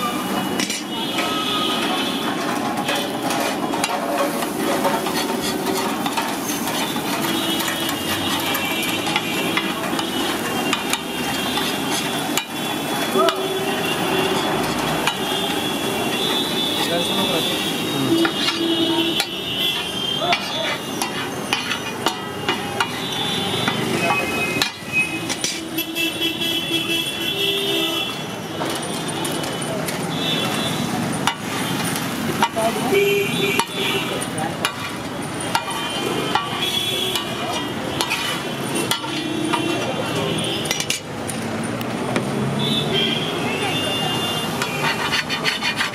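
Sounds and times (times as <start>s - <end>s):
metal spatula on iron griddle: 0.0s - 26.4s, 27.0s - 41.4s, 44.2s - 45.9s.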